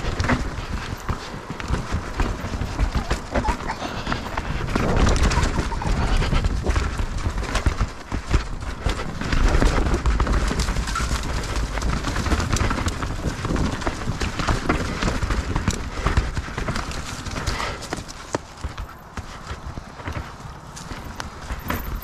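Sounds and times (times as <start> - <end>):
wind rumble on microphone: 0.0 - 18.0
bike tyres rattling over rocks: 0.0 - 22.0.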